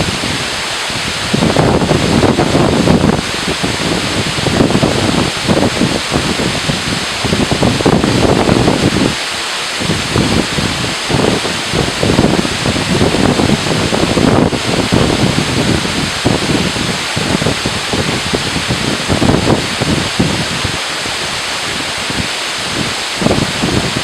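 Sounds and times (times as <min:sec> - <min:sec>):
waterfall roar: 0:00.0 - 0:24.0
wind buffeting microphone: 0:00.0 - 0:24.0.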